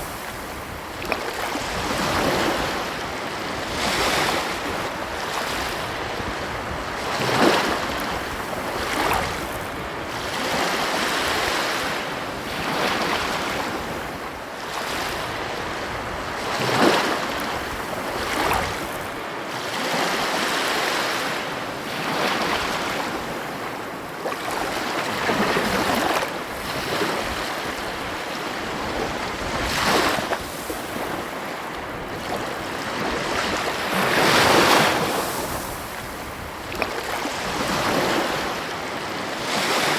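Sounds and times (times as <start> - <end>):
wind on microphone: 0.0 - 19.3, 21.8 - 39.9
ocean waves breaking on beach: 0.0 - 39.9.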